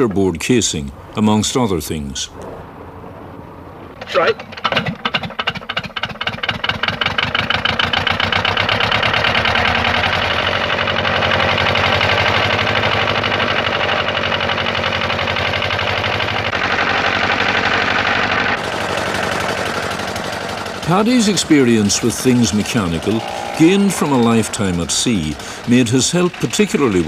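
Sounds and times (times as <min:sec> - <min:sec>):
engine starting and running: 0:02.4 - 0:27.0.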